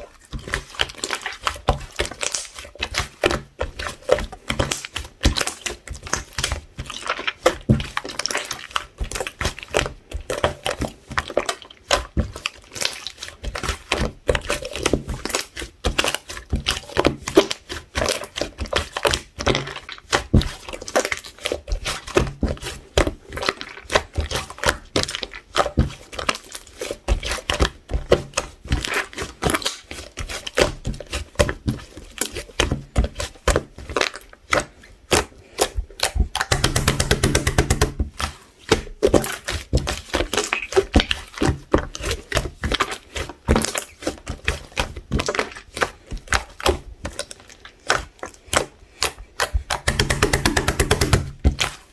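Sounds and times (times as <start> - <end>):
hands squishing slime: 0.0 - 51.9.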